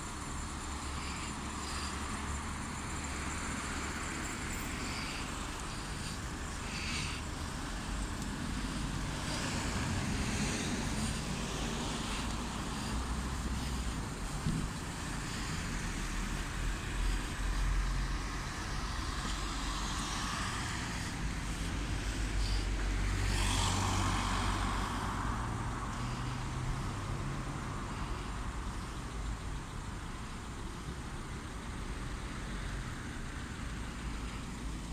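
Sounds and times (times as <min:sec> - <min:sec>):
cars driving past: 0:00.0 - 0:34.9.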